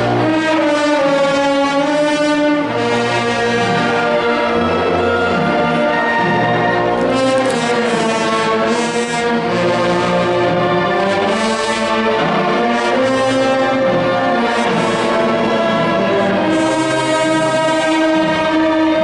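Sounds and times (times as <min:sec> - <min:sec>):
brass band playing funeral march: 0:00.0 - 0:19.0.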